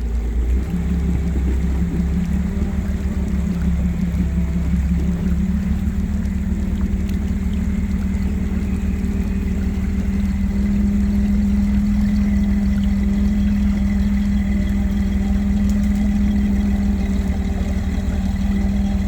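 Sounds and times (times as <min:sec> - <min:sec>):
car engine running at low speed: 0:00.0 - 0:19.0.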